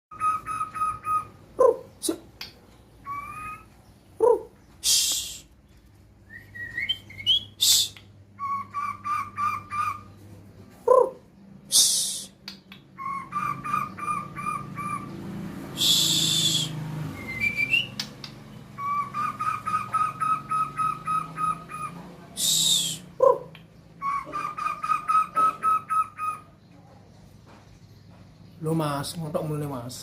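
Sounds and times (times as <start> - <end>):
harsh rasping bird calls: 0.1 - 5.9, 6.5 - 30.0
songbirds whistling: 0.1 - 29.9.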